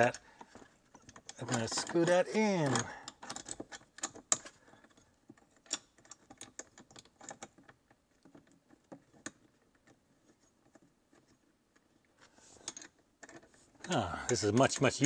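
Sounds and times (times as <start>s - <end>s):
bolts clicking as screwed in: 0.0s - 11.4s, 12.6s - 15.0s.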